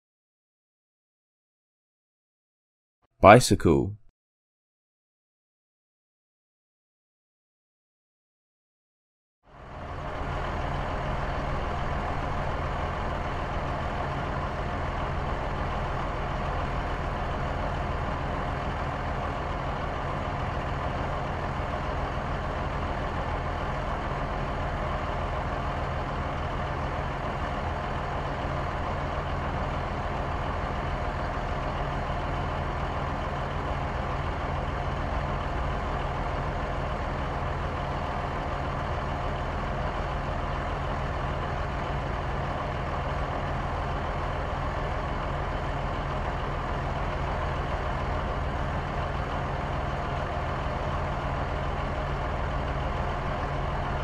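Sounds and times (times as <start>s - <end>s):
heavy vehicle engine idling: 9.5s - 54.0s.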